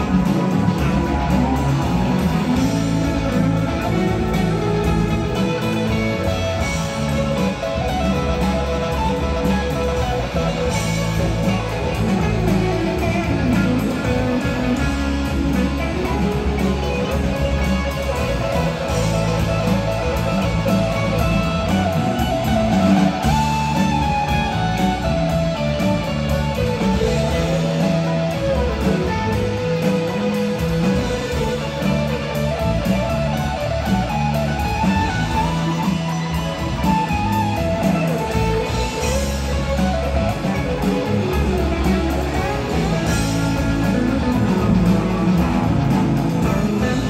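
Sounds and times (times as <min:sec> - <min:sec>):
electric guitar lead: 0:00.0 - 0:47.0
live rock band: 0:00.0 - 0:47.0.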